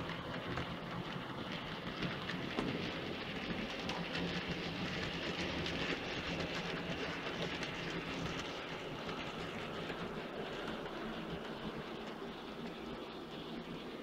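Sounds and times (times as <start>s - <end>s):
model train motor hum: 0.0s - 14.0s
small wheels rolling on rails: 0.0s - 14.0s.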